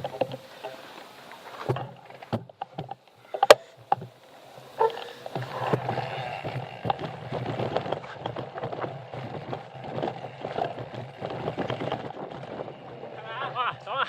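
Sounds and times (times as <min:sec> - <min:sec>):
bike rattling and knocking: 0:00.0 - 0:14.0.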